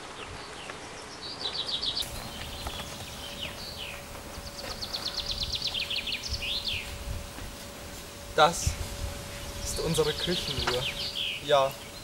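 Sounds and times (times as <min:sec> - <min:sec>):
small birds singing: 0:00.0 - 0:12.0
faint steady hum: 0:02.0 - 0:12.0
low outdoor rumble: 0:02.0 - 0:12.0.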